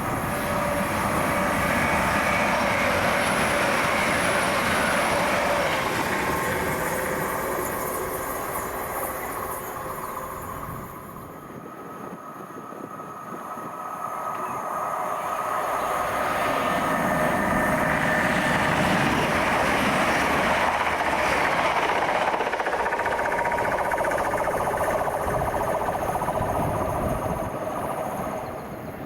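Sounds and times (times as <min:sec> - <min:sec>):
train rumbling through station: 0:00.0 - 0:29.0.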